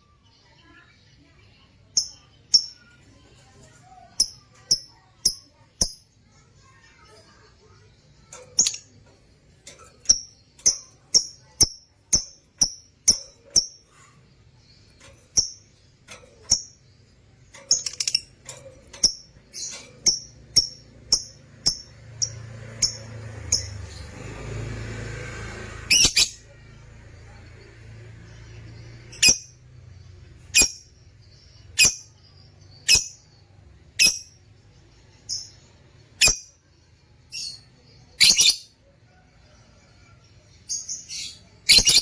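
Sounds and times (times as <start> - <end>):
bird chirping: 0.0 - 24.2, 25.8 - 26.6, 27.3 - 38.8, 40.6 - 42.0.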